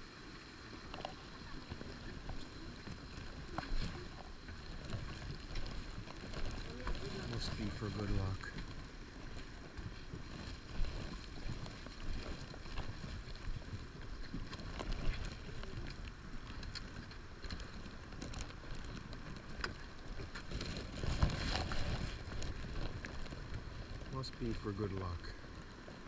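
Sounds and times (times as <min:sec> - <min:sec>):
wind rumbling on microphone: 0:00.0 - 0:26.0
clothing clicks and rustles: 0:00.9 - 0:24.3.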